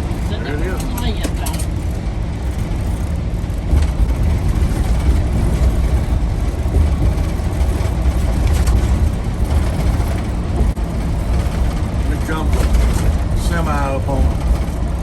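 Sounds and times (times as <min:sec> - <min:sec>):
vehicle engine and tyre noise: 0:00.0 - 0:15.0.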